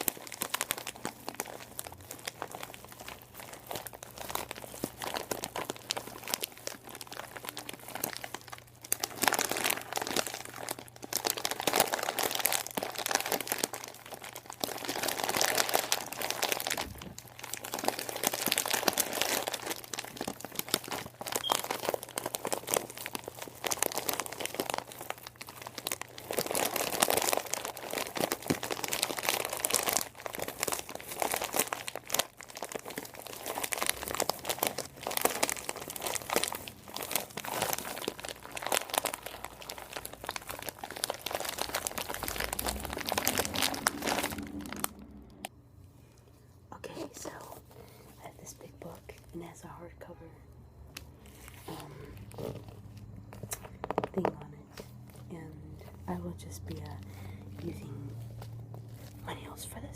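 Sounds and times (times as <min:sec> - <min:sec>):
crinkly material crumpled by hand: 0:00.0 - 0:50.0, 0:50.9 - 0:59.9
faint low hum: 0:00.0 - 0:59.9.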